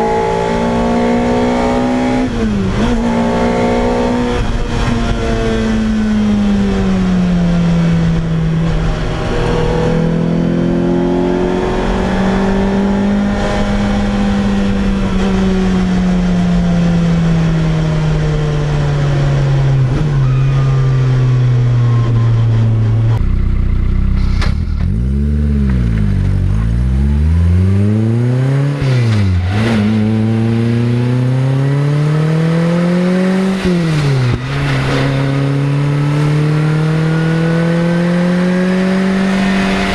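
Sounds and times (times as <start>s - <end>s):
car engine and loud exhaust: 0.0s - 39.9s.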